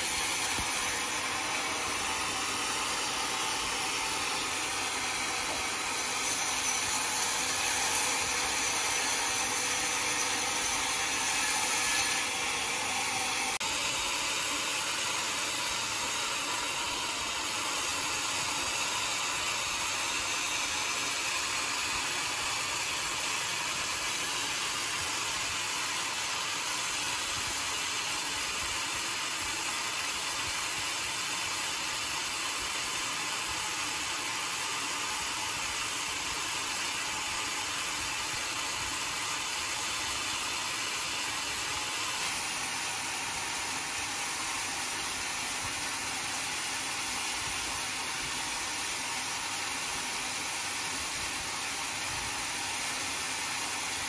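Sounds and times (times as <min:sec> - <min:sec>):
band sawmill whirring: 0:00.0 - 0:54.0.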